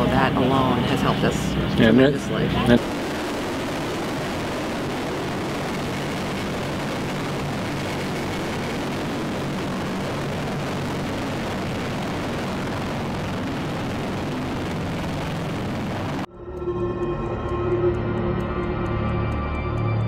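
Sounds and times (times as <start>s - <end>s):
rotor wash wind: 0.0s - 16.3s
helicopter rotor and turbine noise: 0.0s - 20.0s.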